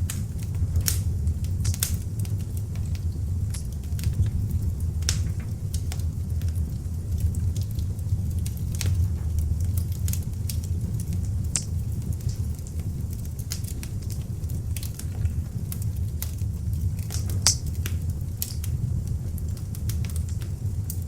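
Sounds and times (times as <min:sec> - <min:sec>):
fire crackling and popping: 0:00.0 - 0:21.0
fire flame rumble: 0:00.0 - 0:21.0.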